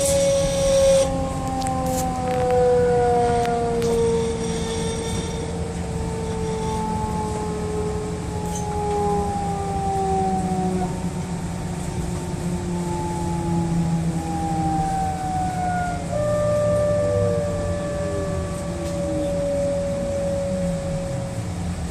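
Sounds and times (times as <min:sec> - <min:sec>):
electric train drive whining: 0:00.0 - 0:21.9
low hum: 0:00.0 - 0:21.9.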